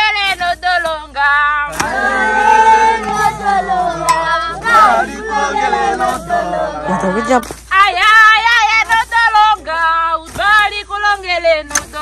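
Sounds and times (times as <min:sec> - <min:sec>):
group singing together: 0:00.0 - 0:12.0.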